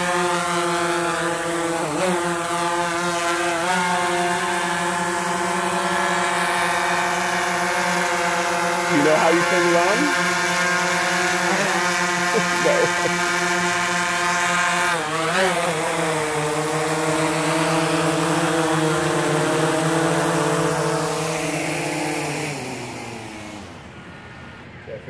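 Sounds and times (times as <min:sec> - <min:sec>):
quadcopter propellers whirring: 0:00.0 - 0:25.0.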